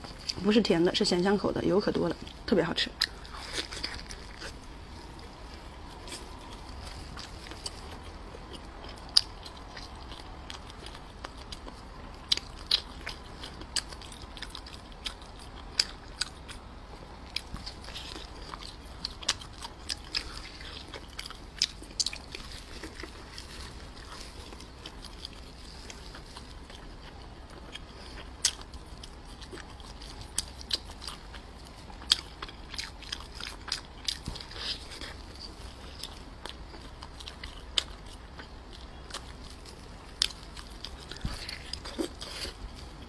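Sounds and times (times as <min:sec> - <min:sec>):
chewing with wet smacks: 0:02.1 - 0:43.0.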